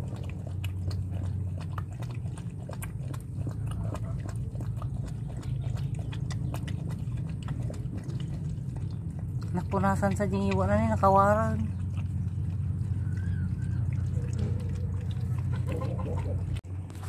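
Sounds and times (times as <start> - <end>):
dog licking and chewing: 0.0 - 17.0
steady low hum: 0.0 - 17.0.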